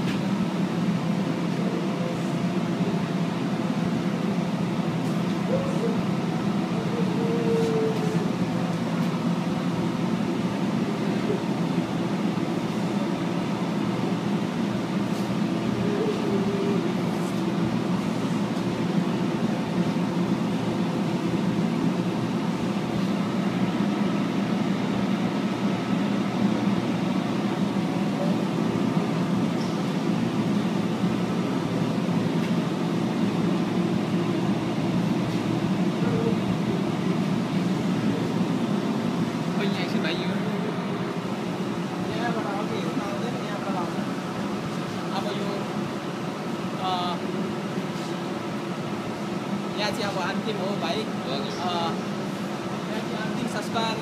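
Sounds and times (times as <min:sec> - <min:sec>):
furnace burners and fans droning: 0:00.0 - 0:54.0.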